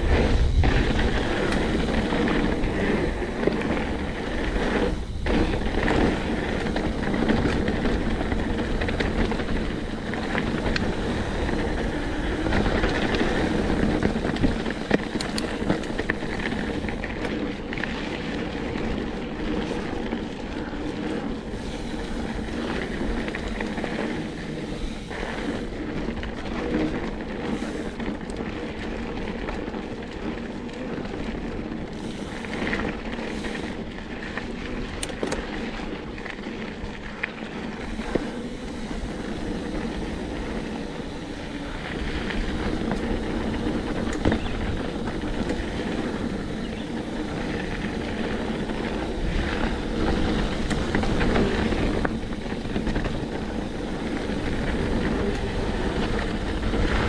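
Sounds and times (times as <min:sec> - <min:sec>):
bike rattling and clicking: 0:00.0 - 0:57.0
bike tyre rumble on dirt: 0:00.0 - 0:57.0
wind on microphone: 0:00.0 - 0:57.0.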